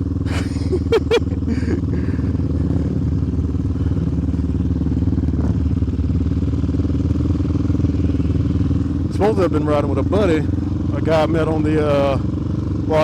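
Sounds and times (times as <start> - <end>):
quad engine running steadily: 0.0 - 13.0.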